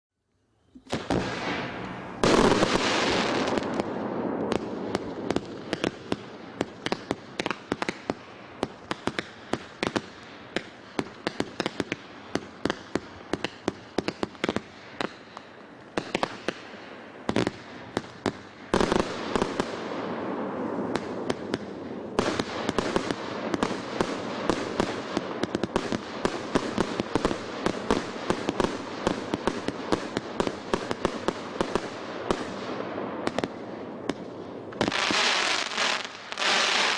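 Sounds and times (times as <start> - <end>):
crackling hiss: 0.3 - 36.9
firework cracks and bangs: 0.9 - 36.9.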